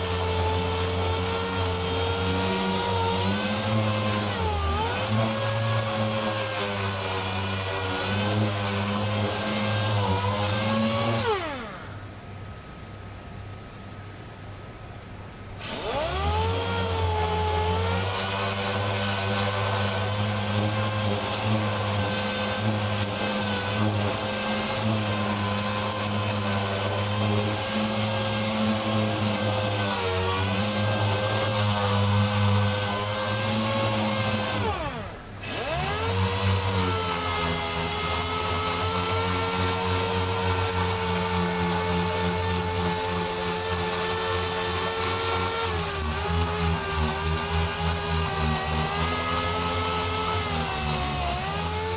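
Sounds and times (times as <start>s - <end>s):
air sander whirring: 0.0s - 12.2s, 15.6s - 51.9s.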